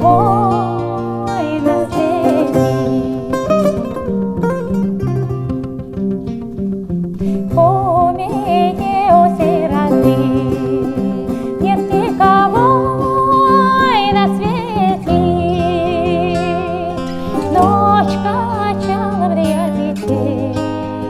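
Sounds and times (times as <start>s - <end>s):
woman singing with vibrato: 0.0s - 4.2s, 7.4s - 21.0s
acoustic guitar: 0.0s - 21.0s
plucked bouzouki: 0.0s - 21.0s.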